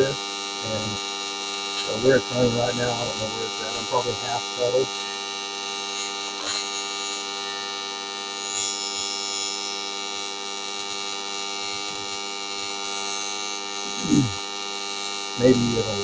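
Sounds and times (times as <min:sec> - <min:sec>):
welding arc buzzing: 0:00.0 - 0:16.0.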